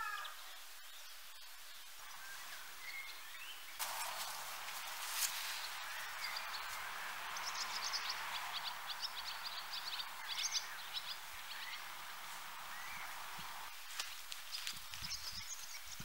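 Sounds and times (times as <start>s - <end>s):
small birds twittering: 0.0s - 16.0s
steady background hiss: 0.0s - 16.0s.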